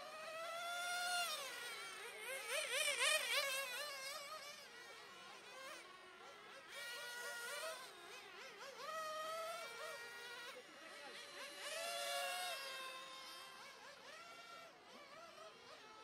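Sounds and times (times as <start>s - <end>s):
rc car motors buzzing: 0.0s - 16.0s.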